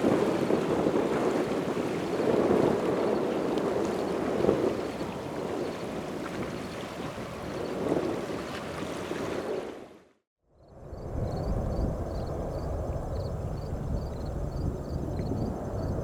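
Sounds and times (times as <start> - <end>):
wind buffeting microphone: 0.0 - 9.8, 10.7 - 16.0.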